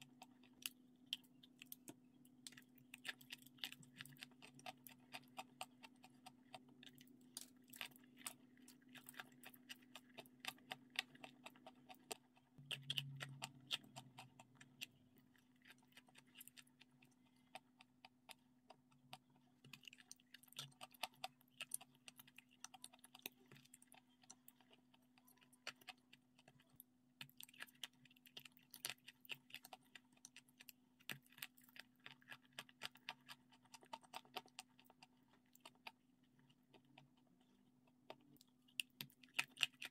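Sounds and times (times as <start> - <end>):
chewing and wet mouth sounds: 0.0 - 39.9.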